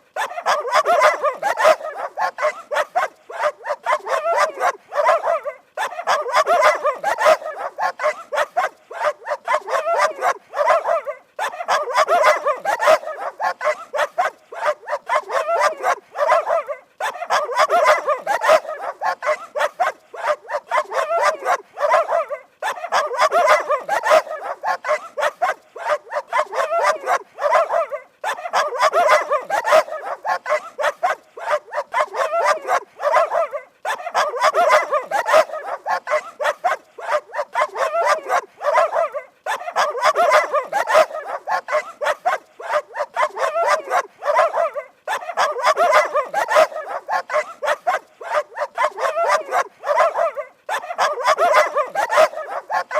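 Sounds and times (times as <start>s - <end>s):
dogs barking rapidly: 0.0s - 52.9s.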